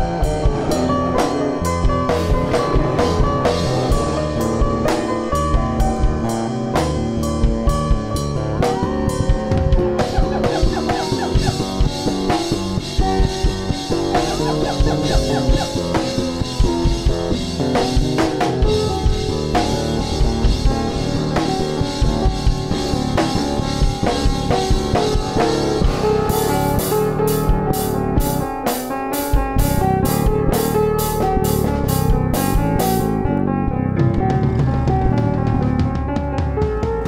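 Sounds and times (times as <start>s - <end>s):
drum and guitar music: 0.0s - 37.0s.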